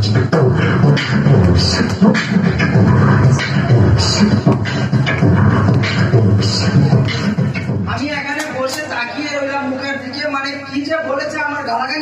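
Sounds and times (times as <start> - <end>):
man performing into microphone: 0.0 - 12.0.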